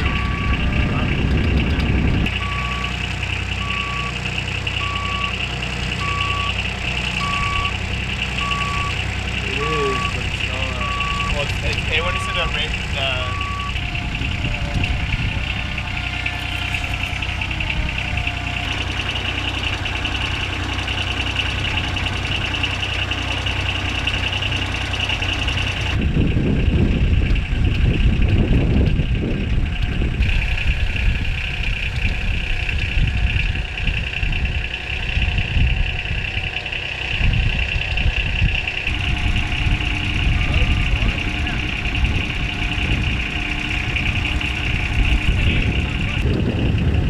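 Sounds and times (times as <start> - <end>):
constant high whine: 0.0 - 47.0
vehicle engine idling: 0.0 - 47.0.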